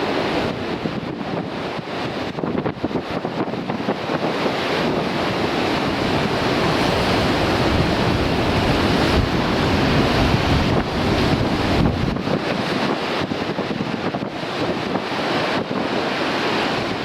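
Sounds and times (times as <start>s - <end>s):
sea surf breaking: 0.0s - 17.0s
wind buffeting microphone: 0.0s - 17.0s.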